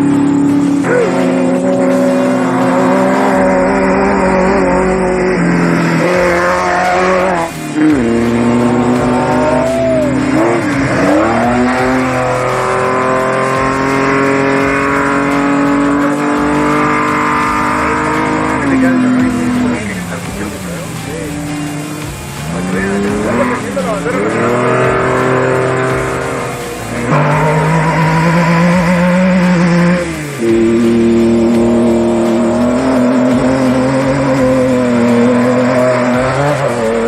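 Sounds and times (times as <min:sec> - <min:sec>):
race vehicle engines revving: 0:00.0 - 0:37.0.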